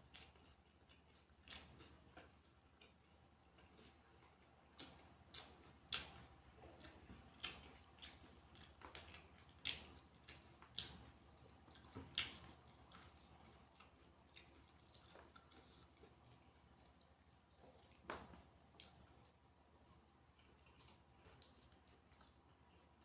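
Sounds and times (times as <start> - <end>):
wet chewing and crunching: 0.0 - 23.0.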